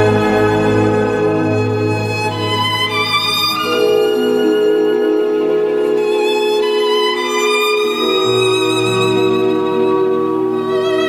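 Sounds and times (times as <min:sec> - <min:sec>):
violin sustained notes: 0:00.0 - 0:11.0.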